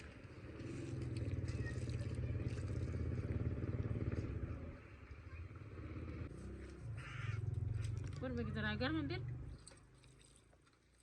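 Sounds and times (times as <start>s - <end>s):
motor engine running: 0.0s - 9.7s.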